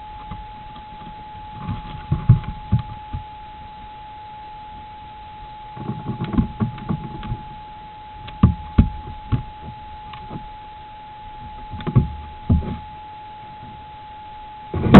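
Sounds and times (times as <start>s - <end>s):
thin electronic whine: 0.0s - 14.9s.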